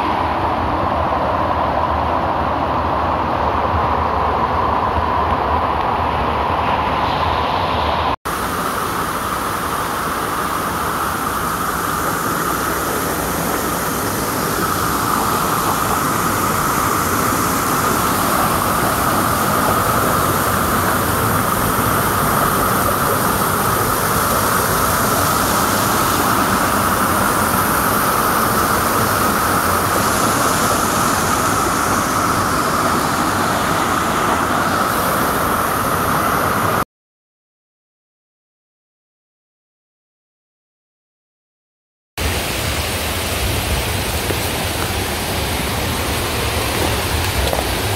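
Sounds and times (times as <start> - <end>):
creek rushing over rocks: 4.0 - 36.8, 42.2 - 47.9.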